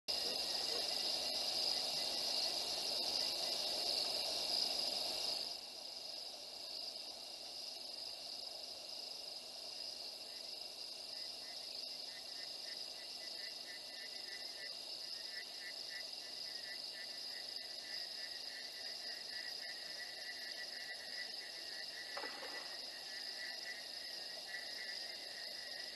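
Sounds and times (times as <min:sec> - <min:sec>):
crickets trilling: 0:00.1 - 0:25.9
insect rapid pulsed chirping: 0:00.1 - 0:25.9
low even hiss: 0:00.1 - 0:25.9.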